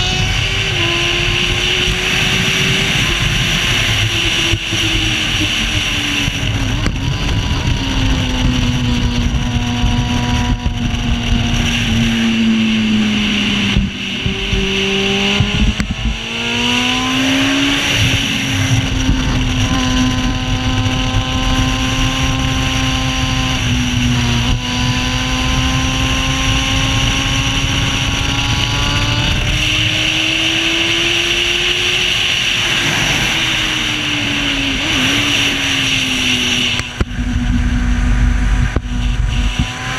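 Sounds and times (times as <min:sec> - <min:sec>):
racing engine revving: 0:00.0 - 0:39.9
wind rushing past: 0:00.0 - 0:39.9.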